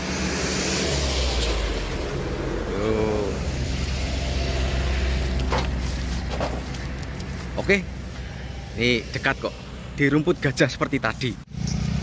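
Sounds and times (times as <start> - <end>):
car passing: 0.0 - 10.6
low traffic rumble: 0.0 - 12.0.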